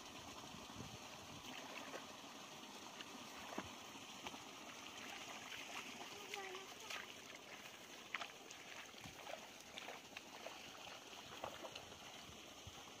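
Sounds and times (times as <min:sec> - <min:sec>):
small water splashes: 0:00.0 - 0:13.0
footsteps wading through water: 0:01.4 - 0:13.0.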